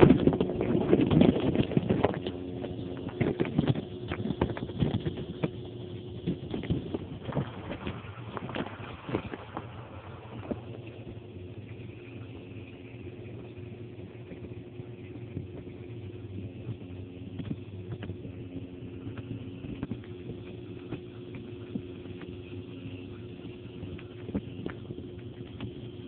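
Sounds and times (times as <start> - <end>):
water pump hum underwater: 0.0 - 26.0.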